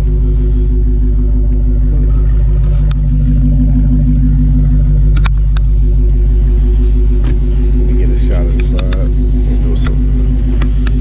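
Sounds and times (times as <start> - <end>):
car engine idling loudly: 0.0 - 11.0.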